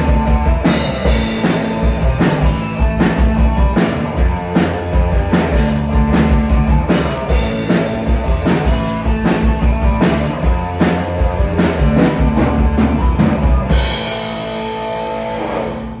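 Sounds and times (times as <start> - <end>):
drum-kit beat: 0.0 - 15.7
live rock band playing: 0.0 - 16.0.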